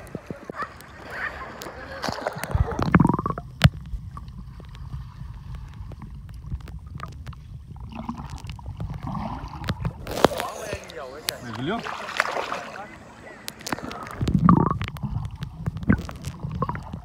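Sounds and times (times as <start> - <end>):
muffled underwater rumble and gurgling: 0.0 - 17.0
underwater clicks: 0.0 - 17.0
water splash: 0.0 - 17.0.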